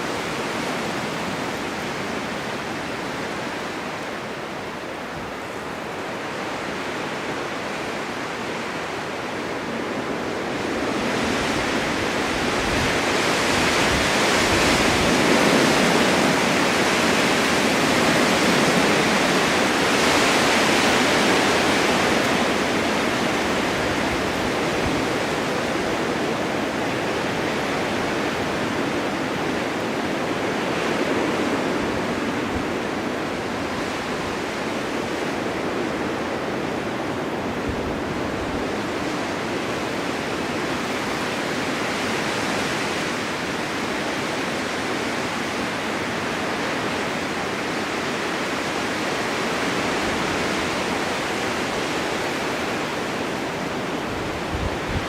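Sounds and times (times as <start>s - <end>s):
blizzard wind rushing: 0.0s - 55.0s.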